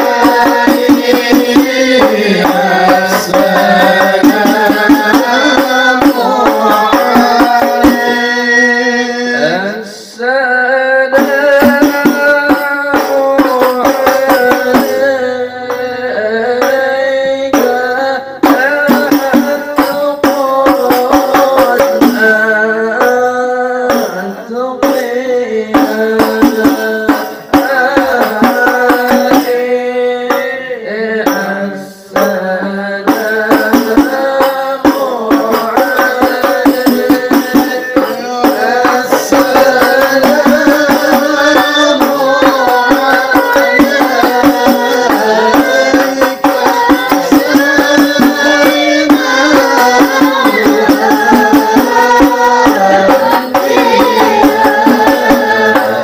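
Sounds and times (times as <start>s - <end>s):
fast frame drum beating: 0.0s - 9.0s, 11.1s - 30.6s, 31.2s - 56.0s
voices singing devotional melody: 0.0s - 56.0s.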